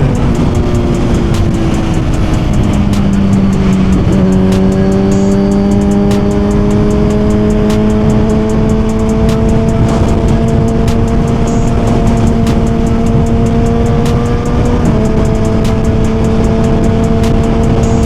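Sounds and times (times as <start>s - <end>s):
background music: 0.0s - 18.0s
motorcycle engine running: 0.0s - 18.0s
wind noise: 0.0s - 18.0s.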